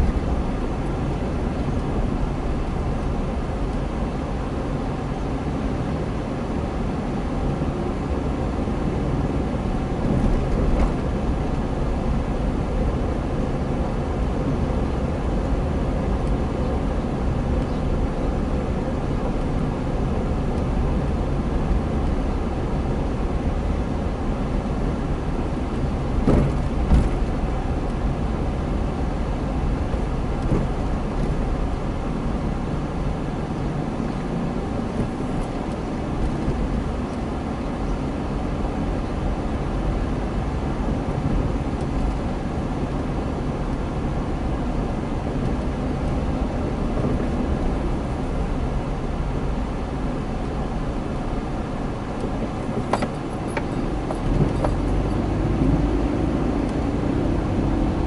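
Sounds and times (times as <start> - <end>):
car interior driving noise: 0.0 - 58.0.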